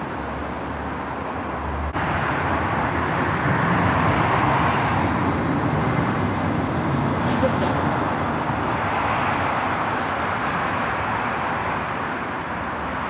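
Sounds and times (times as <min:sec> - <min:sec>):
vehicle running noise: 0:00.0 - 0:13.0.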